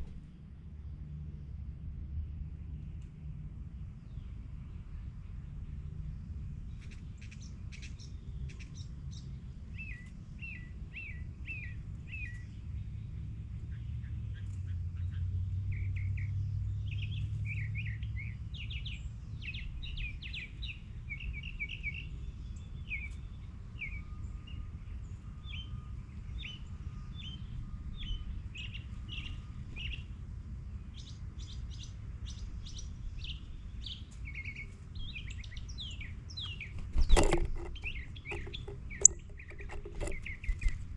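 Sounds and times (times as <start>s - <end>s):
small birds chirping: 6.6s - 30.2s, 30.8s - 40.9s.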